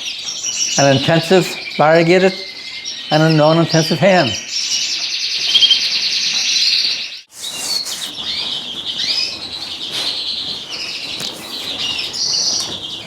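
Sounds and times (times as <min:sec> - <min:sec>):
canaries and finches chirping: 0:00.0 - 0:13.0.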